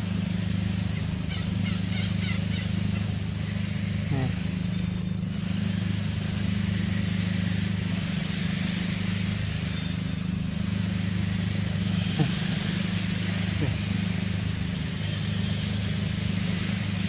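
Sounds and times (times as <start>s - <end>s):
outdoor hiss: 0.0s - 17.0s
steady low hum: 0.0s - 17.0s.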